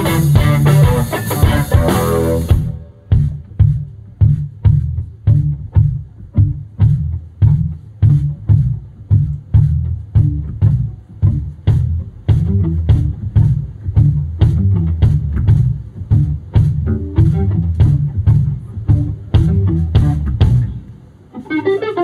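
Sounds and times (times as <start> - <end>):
kick drum: 3.1 - 20.8.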